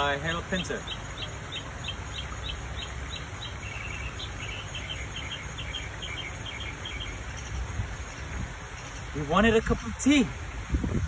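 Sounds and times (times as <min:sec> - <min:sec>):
lower chirping: 0:00.0 - 0:10.2.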